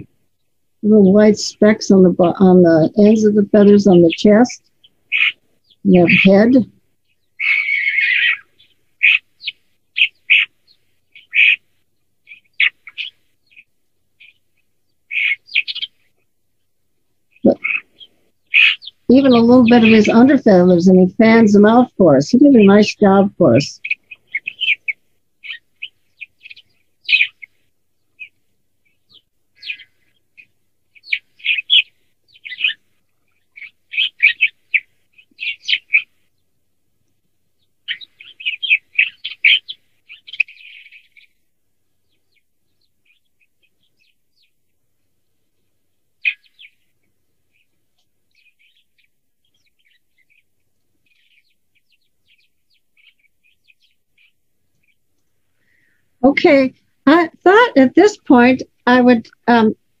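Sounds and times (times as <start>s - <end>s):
starling chirps and rattles: 0.8s - 16.7s, 17.3s - 60.0s.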